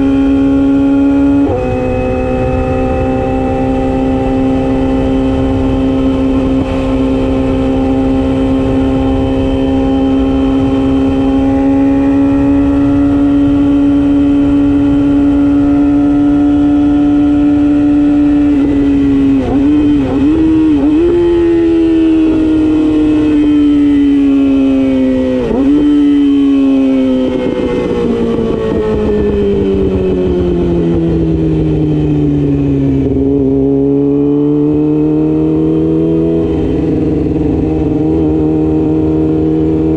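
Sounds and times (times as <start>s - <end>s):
motorcycle engine high revs: 0.0s - 31.8s, 32.4s - 39.9s.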